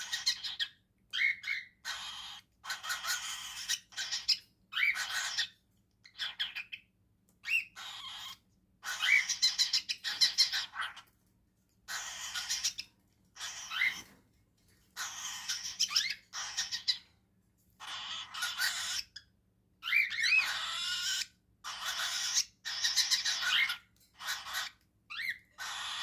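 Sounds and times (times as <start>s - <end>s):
bird chicks raspy begging calls: 0.0s - 11.1s, 11.8s - 14.2s, 14.9s - 17.1s, 17.8s - 26.0s.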